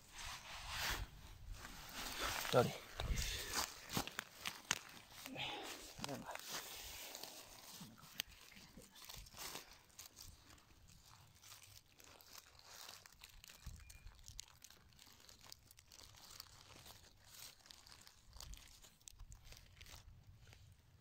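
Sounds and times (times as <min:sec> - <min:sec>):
dry leaves rustling: 0:01.5 - 0:20.6.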